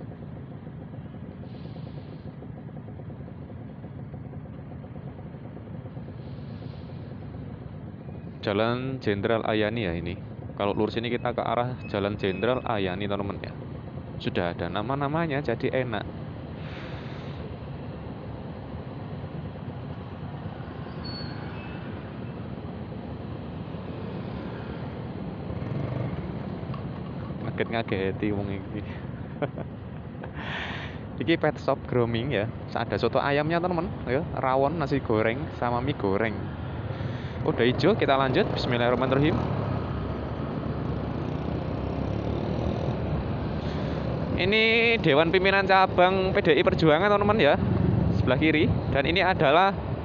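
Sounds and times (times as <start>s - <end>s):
motorcycle engine running: 0.0s - 50.0s
road noise: 0.0s - 50.0s
street traffic: 0.0s - 50.0s.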